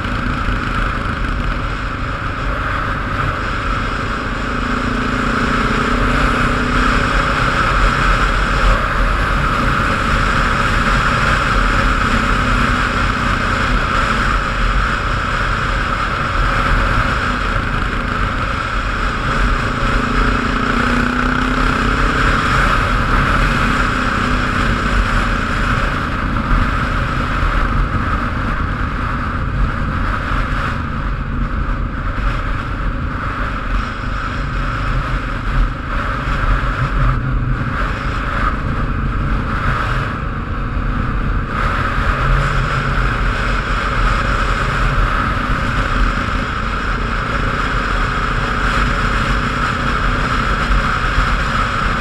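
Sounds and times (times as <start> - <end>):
low engine hum: 0.0 - 52.0
vehicle engine and road noise: 0.0 - 52.0.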